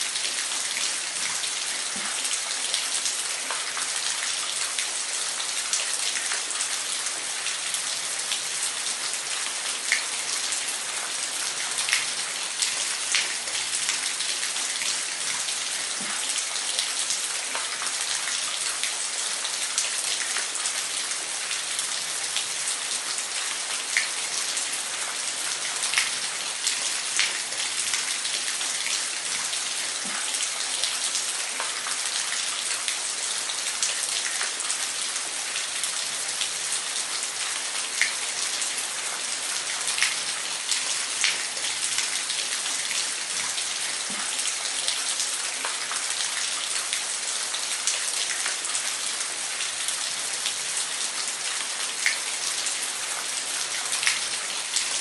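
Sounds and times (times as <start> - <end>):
water splashes and drips: 0.0 - 55.0.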